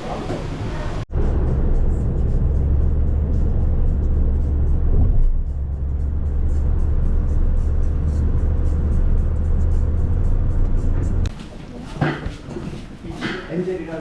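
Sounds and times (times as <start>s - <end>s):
car driving rumble: 0.0s - 11.3s.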